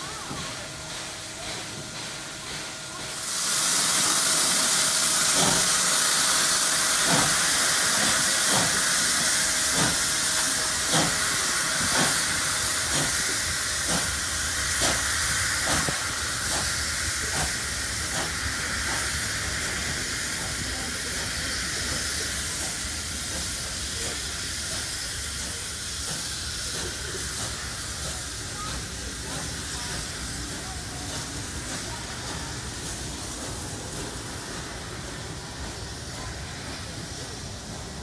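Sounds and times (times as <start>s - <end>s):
loud steam hiss: 0.0s - 38.0s
steam locomotive exhaust chuffs: 0.1s - 38.0s.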